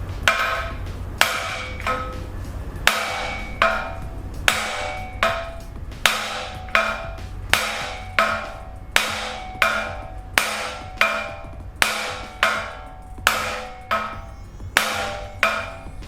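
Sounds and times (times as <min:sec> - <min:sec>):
hammer blows on steel: 0:00.0 - 0:16.0.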